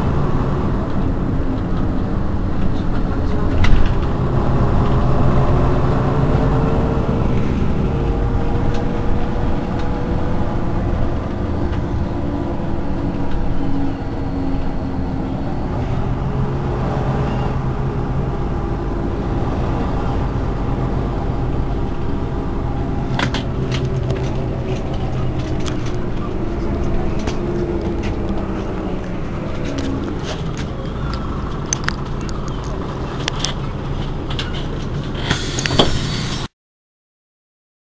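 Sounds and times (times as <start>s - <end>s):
bus engine idling: 0.0s - 36.5s.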